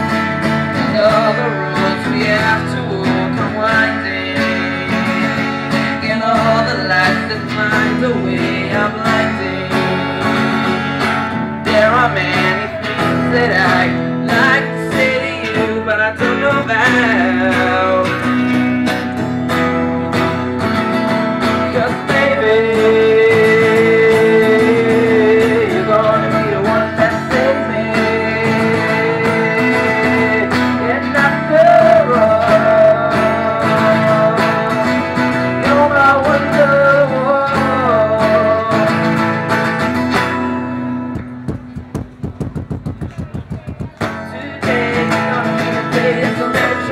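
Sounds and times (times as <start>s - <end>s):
acoustic guitar strumming: 0.0s - 46.9s
young man singing: 0.0s - 46.9s.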